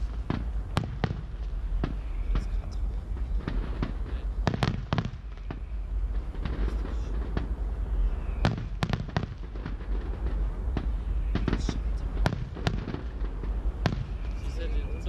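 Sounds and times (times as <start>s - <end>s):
firework shells bursting: 0.0s - 14.7s
low rumble: 0.0s - 15.0s.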